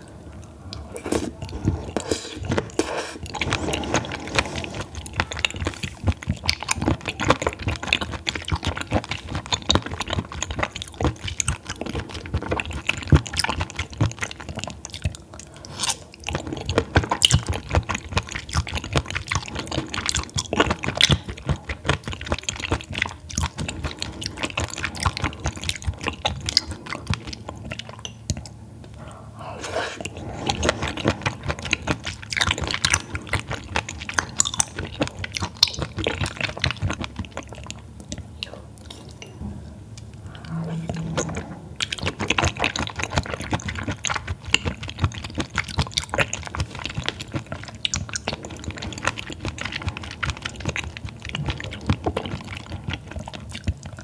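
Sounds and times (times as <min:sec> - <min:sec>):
wet chewing: 0:00.0 - 0:39.4, 0:40.0 - 0:54.0.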